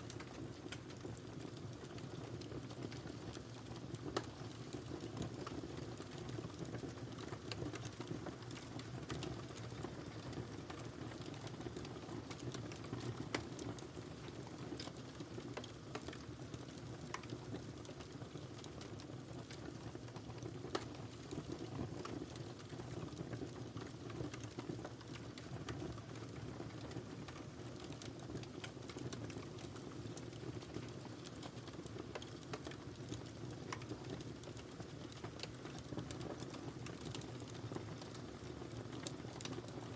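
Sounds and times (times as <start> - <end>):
fire crackles and pops: 0.0 - 39.9
fire hissing and rumbling: 0.0 - 39.9.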